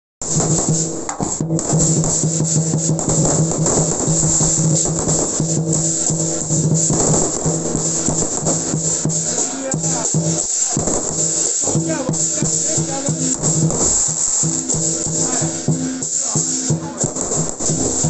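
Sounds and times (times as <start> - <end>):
fireworks crackling: 0.2 - 18.0
music with repeating figure: 0.3 - 18.0.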